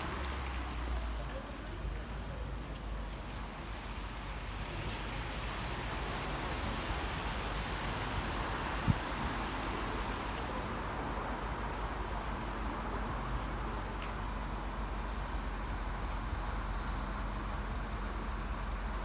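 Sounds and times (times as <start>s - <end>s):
rain on a wet street: 0.0s - 19.0s
traffic noise: 0.0s - 19.0s.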